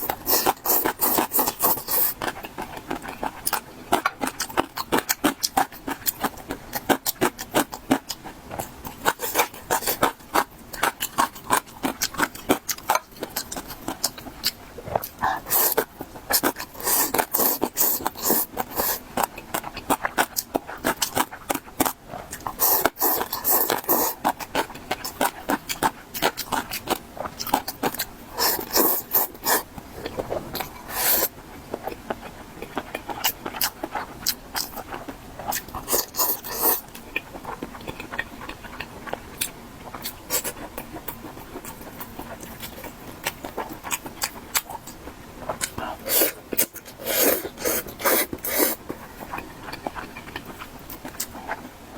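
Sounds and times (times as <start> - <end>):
food crunching: 0.0 - 51.7
wet chewing clicks: 0.0 - 51.7.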